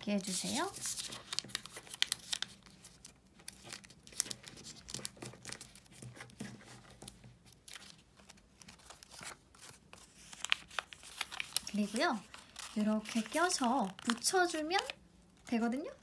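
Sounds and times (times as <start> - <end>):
paper rustling and crinkling: 0.0 - 15.6.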